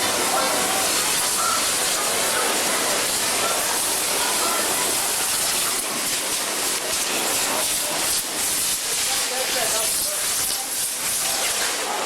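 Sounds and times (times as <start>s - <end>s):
loud hissing rush of noise: 0.0s - 12.0s
sharp crackles: 1.0s - 11.9s.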